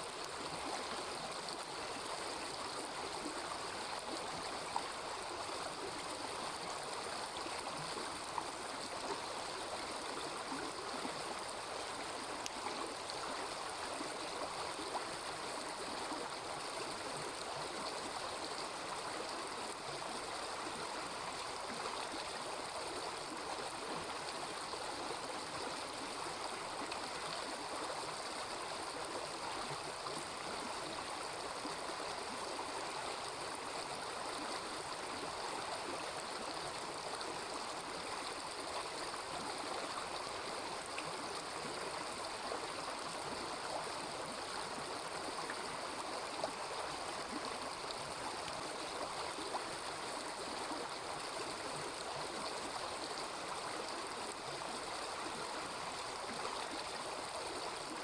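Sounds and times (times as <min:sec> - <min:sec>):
river babbling: 0:00.1 - 0:58.0.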